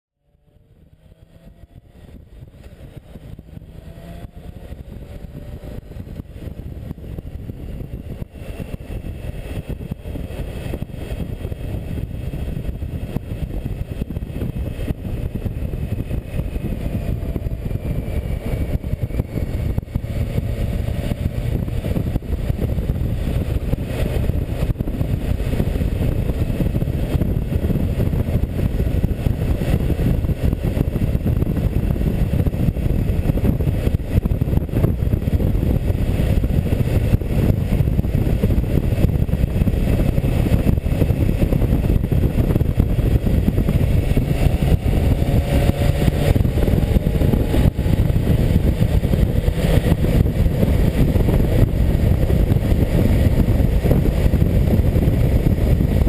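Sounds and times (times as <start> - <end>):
heavy wind rumble: 0.2 - 56.0
motorcycle engine: 0.2 - 56.0.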